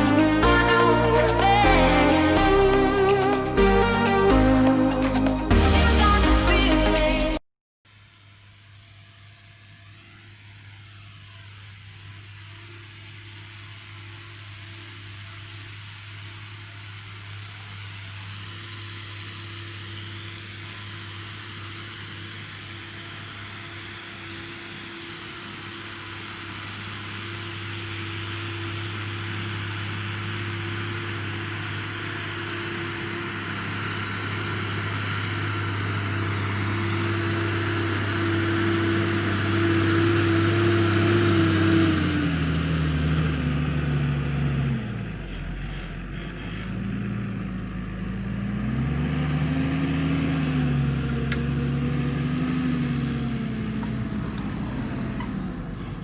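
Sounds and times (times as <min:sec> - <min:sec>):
tractor diesel engine under load: 0:00.0 - 0:07.4, 0:10.8 - 0:56.0.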